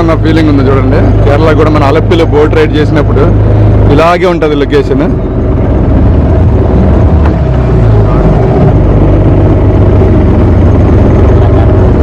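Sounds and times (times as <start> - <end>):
boat motor droning: 0.0 - 12.0.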